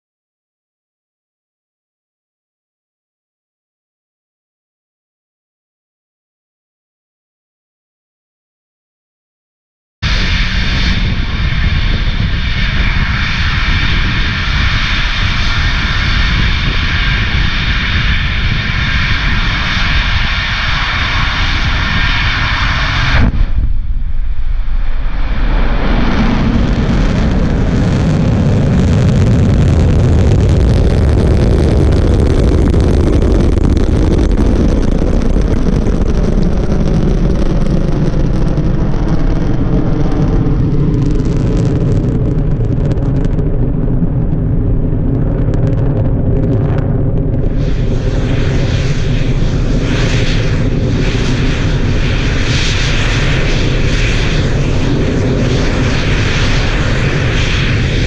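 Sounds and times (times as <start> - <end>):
rocket engines roaring: 10.0 - 58.0.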